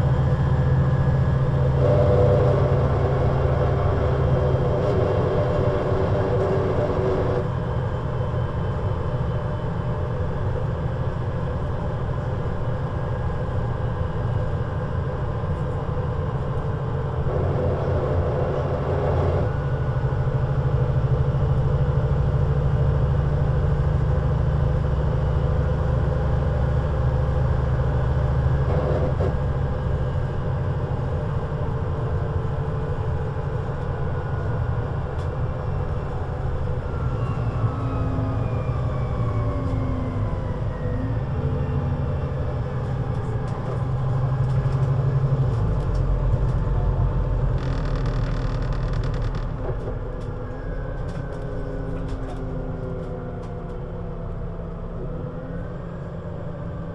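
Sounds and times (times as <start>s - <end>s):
bus engine rumbling: 0.0s - 56.9s.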